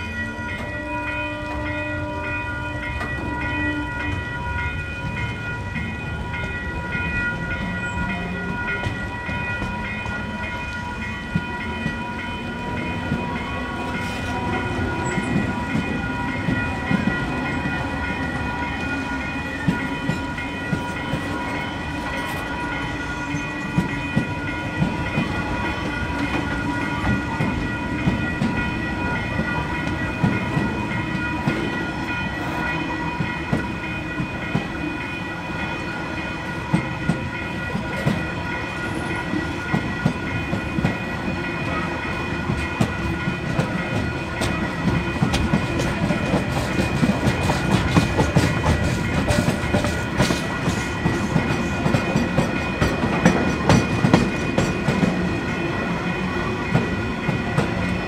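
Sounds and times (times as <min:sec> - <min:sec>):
train wheels clacking: 0:02.8 - 0:58.0.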